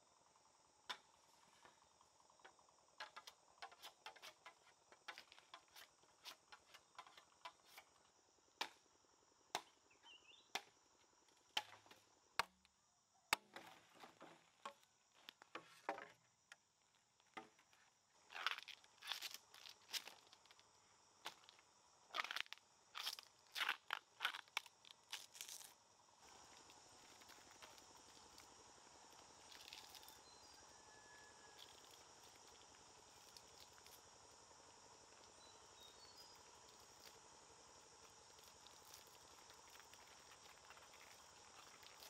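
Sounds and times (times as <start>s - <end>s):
faint insect drone: 0.0s - 42.0s.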